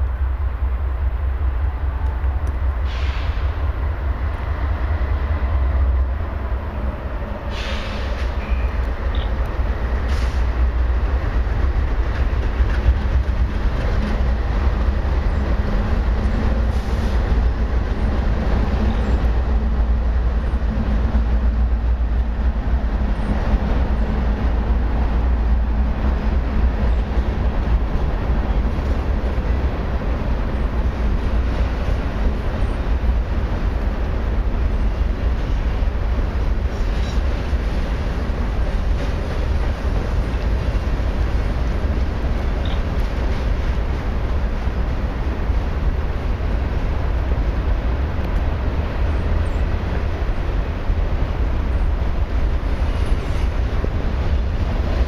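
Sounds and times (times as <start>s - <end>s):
freight train low rumble: 0.0s - 55.0s.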